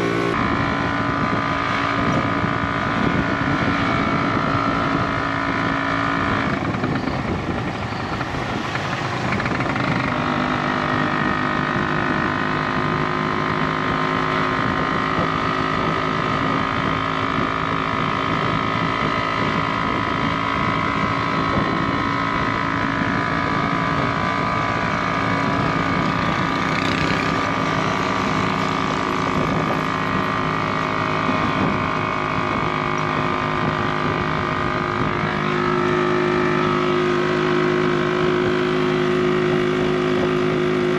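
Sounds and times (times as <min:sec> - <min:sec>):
road noise: 0:00.0 - 0:40.9
small engine running: 0:00.0 - 0:40.9.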